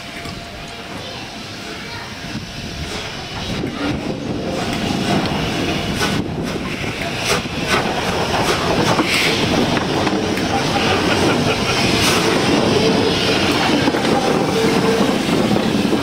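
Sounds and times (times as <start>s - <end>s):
steam locomotive rolling past: 0.0s - 16.0s.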